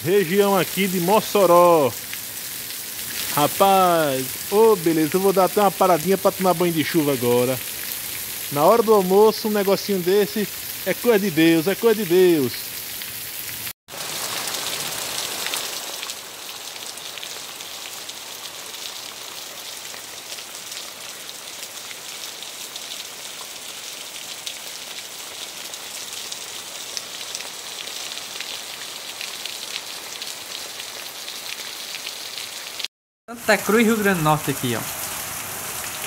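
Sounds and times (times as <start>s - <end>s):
rain falling on leaves: 0.0s - 36.0s.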